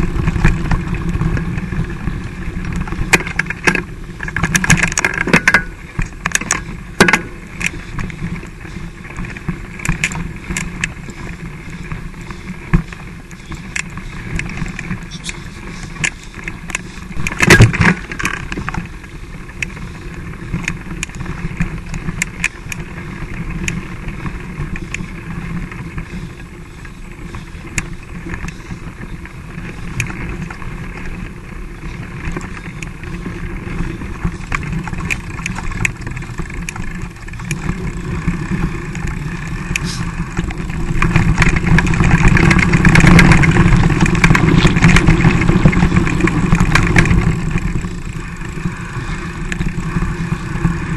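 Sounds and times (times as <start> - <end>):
bike frame and chain rattling: 0.0 - 50.9
wind and tyre noise: 0.0 - 50.9.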